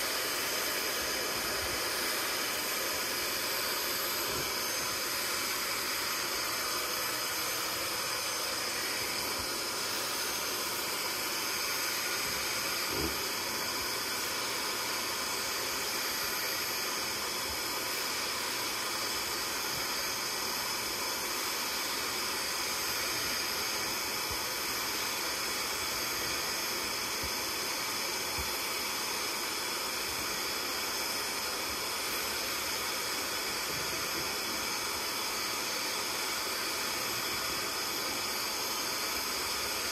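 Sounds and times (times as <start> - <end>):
carpet extractor suction: 0.0 - 39.9.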